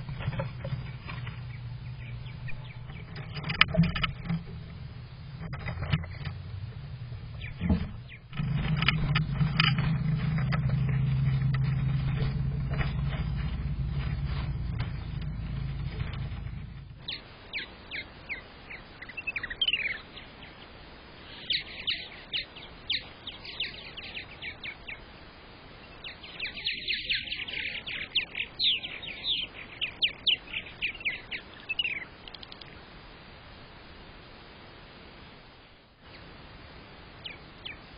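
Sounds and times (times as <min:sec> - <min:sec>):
birds chirping: 0:00.0 - 0:33.0, 0:37.1 - 0:37.9.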